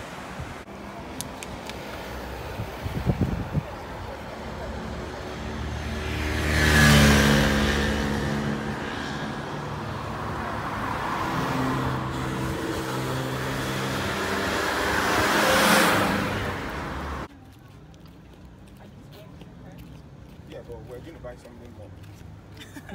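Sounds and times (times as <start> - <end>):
cars passing: 0.0 - 22.9
steady traffic noise: 0.0 - 22.9.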